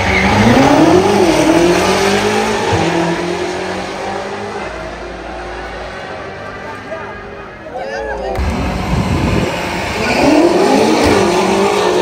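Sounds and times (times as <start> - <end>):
car engines at full throttle: 0.0 - 7.6, 8.2 - 12.0.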